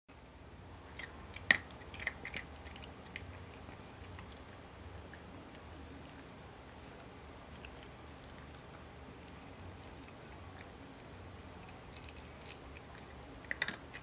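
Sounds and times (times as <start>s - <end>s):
cat crunching dry kibble: 0.8s - 14.0s.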